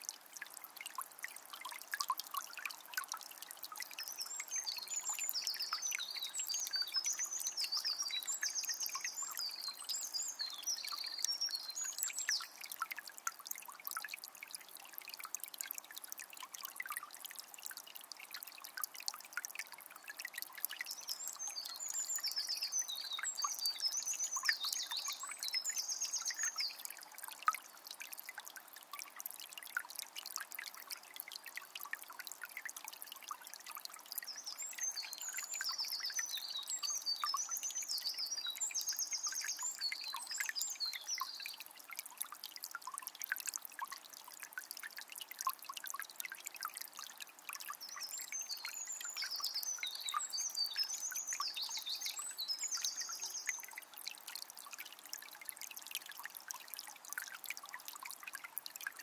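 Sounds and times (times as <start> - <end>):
river trickling and splashing: 0.0 - 59.0.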